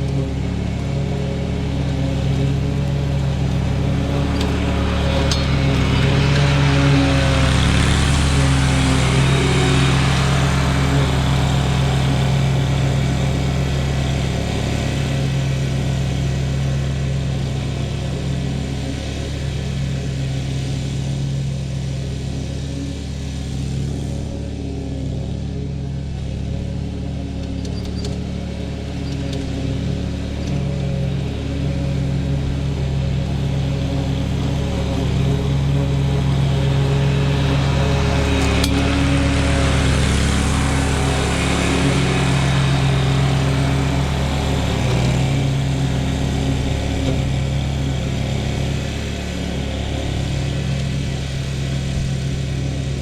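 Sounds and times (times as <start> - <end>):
riding lawn mower engine running: 0.0 - 53.0.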